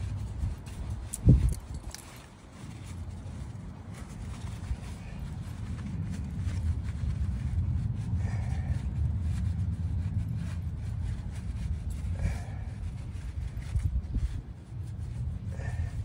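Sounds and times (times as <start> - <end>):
towel rubbing on wheel: 0.0 - 16.0
low rumble: 2.5 - 16.0.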